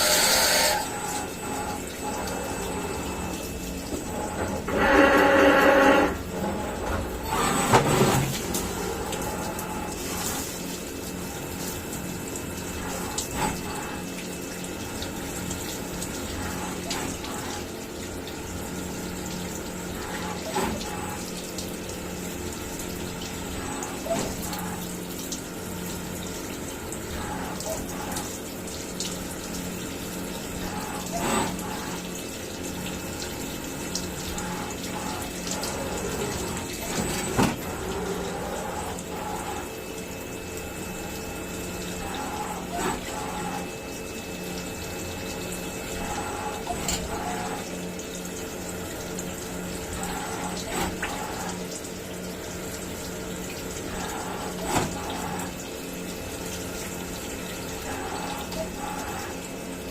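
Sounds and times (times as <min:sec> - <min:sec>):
milling machine hum: 0:00.0 - 0:59.9.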